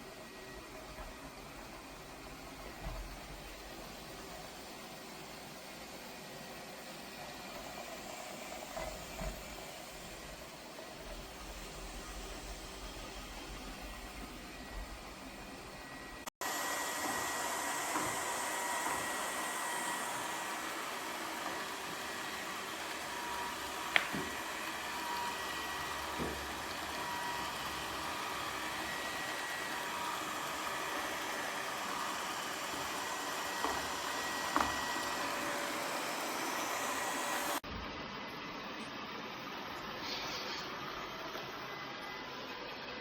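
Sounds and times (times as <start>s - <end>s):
robot vacuum cleaner whirring: 0.0s - 37.7s.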